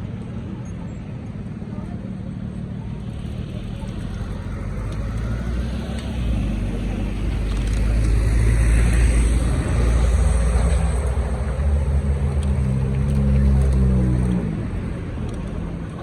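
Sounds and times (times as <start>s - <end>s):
vehicle low rumbling hum: 0.0s - 16.0s.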